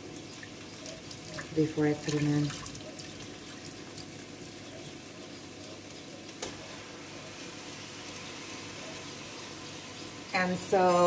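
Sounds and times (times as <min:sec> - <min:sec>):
soup simmering hiss: 0:00.0 - 0:11.0.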